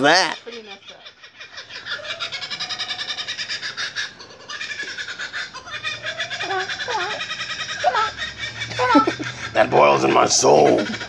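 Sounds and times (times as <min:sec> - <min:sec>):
kookaburra calling: 0:00.0 - 0:11.0.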